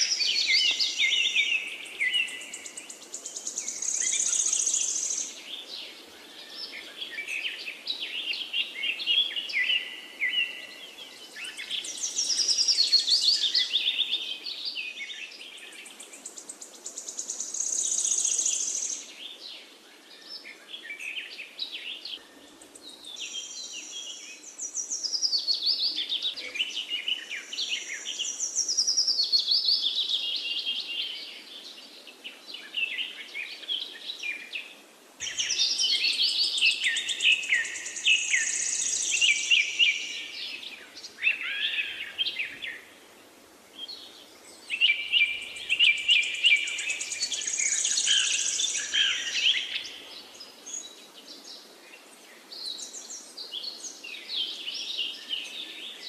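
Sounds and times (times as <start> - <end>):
birds chirping and singing: 0.0 - 31.8, 35.2 - 42.9, 43.8 - 51.6.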